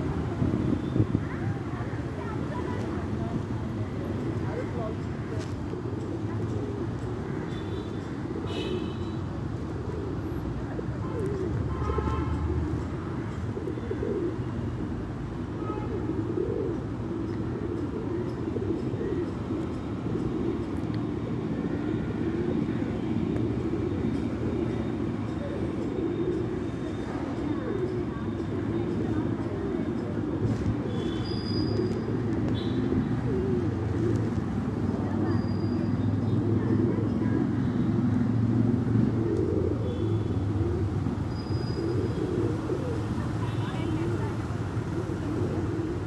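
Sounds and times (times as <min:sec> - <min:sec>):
pigeons cooing: 0:00.0 - 0:08.8, 0:09.4 - 0:46.0
road traffic rumble: 0:00.0 - 0:46.0.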